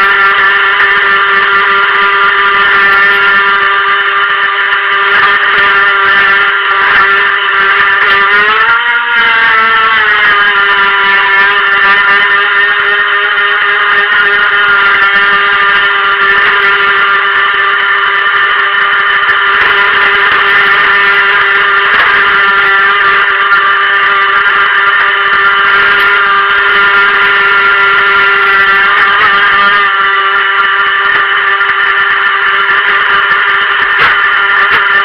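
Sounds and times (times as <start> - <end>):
electric motor high whine: 0.0 - 35.0.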